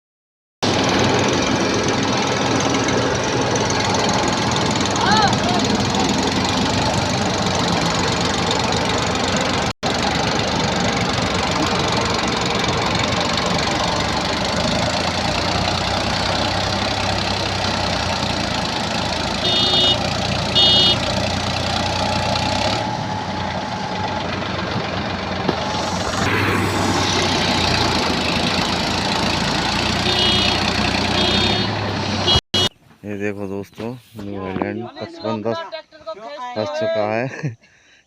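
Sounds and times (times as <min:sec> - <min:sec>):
diesel engine running: 0:00.6 - 0:33.5.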